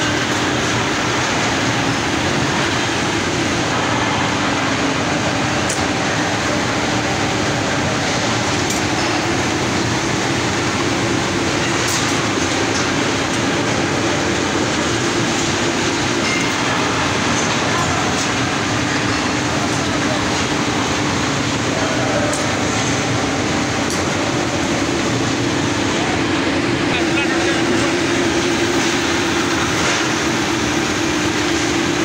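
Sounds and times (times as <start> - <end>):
rolling mill machinery noise: 0.0 - 32.0.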